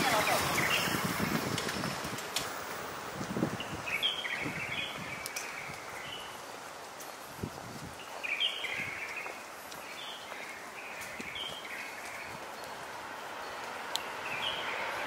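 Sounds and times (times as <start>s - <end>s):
songbird chirping: 0.0s - 15.0s
street ambience hiss: 0.0s - 15.0s.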